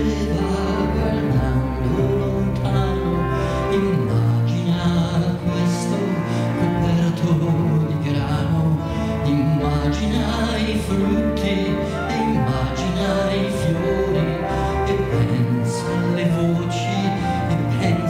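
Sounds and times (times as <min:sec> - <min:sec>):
accordion: 0:00.0 - 0:18.0
keyboard: 0:00.0 - 0:18.0.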